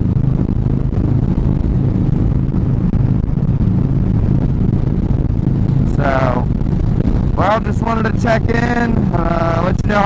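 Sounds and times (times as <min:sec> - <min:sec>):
motorcycle engines droning: 0:00.0 - 0:10.0
road noise: 0:00.0 - 0:10.0.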